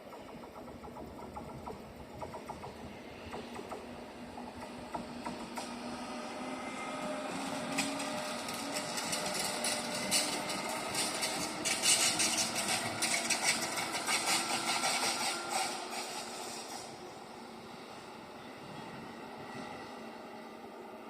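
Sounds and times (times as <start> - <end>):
train wheels clattering on rails: 0.0 - 17.2.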